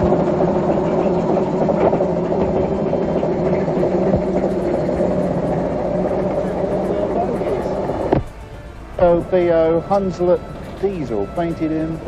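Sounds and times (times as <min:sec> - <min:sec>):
small diesel locomotive engine: 0:00.0 - 0:12.0.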